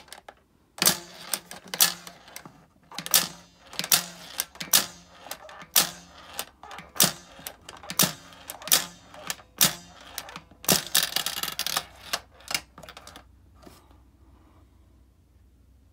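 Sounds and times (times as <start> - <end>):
toy pachinko plastic clacks: 0.0 - 13.2
metal balls rattling: 0.0 - 13.3.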